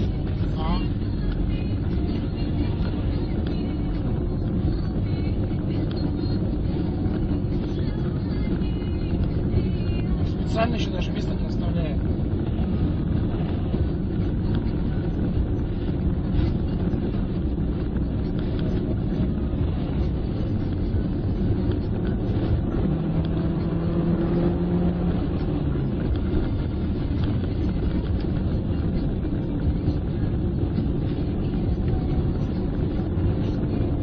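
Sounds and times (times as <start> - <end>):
car engine and tyre noise: 0.0 - 34.0
steady engine tone: 0.0 - 34.0.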